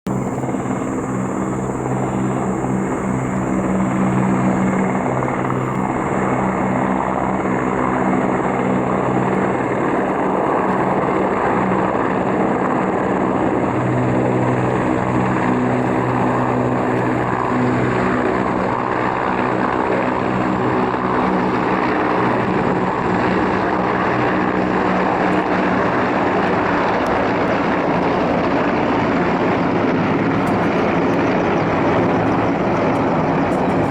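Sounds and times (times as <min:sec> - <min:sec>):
helicopter rotor and turbine noise: 0:00.0 - 0:33.9.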